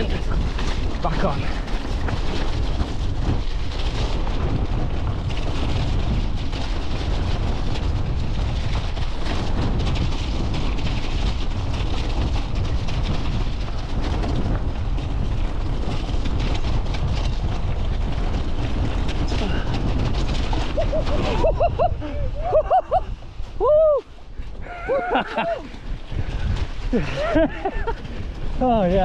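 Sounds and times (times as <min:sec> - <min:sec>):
bike rattling over rough ground: 0:00.0 - 0:29.0
wind buffeting microphone: 0:00.0 - 0:29.0.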